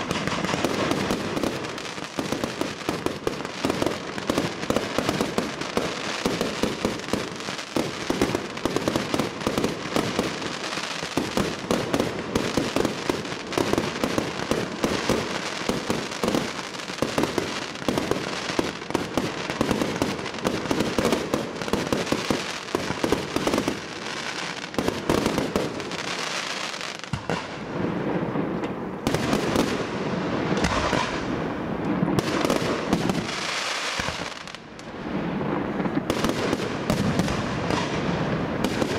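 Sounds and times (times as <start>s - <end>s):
fireworks cracking and popping: 0.0s - 38.9s.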